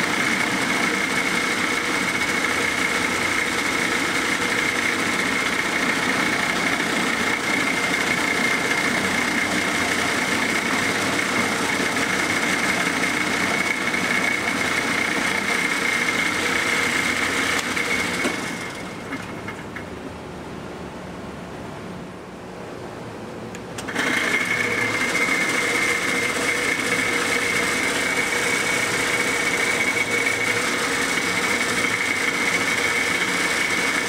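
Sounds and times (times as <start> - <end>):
power tool whining: 0.0 - 19.6, 23.8 - 34.0.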